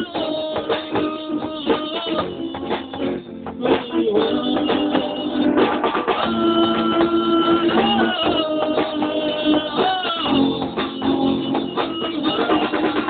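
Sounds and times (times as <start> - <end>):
electric guitar bending notes: 0.0 - 13.0
rock band playing: 0.0 - 13.0.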